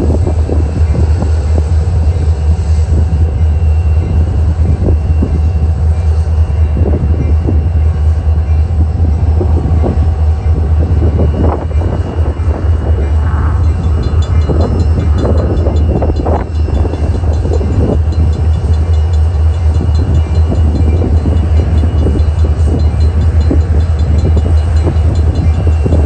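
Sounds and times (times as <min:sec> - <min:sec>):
diesel locomotive rumble: 0:00.0 - 0:26.0.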